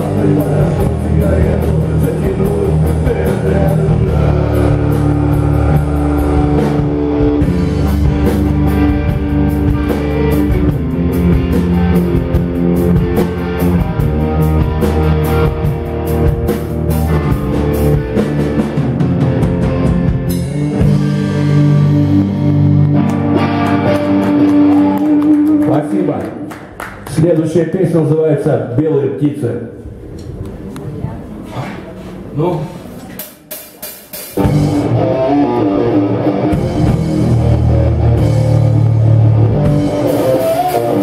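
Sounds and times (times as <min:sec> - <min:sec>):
drum kit: 0:00.0 - 0:25.8, 0:33.0 - 0:41.0
bass guitar: 0:00.0 - 0:26.8, 0:34.4 - 0:41.0
electric guitar: 0:00.0 - 0:27.1, 0:34.4 - 0:41.0.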